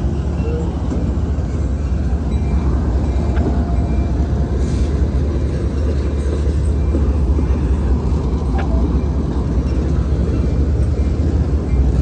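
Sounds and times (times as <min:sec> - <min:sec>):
train wheels rumbling on rail: 0:00.0 - 0:12.0
wheel squeals: 0:00.1 - 0:11.0.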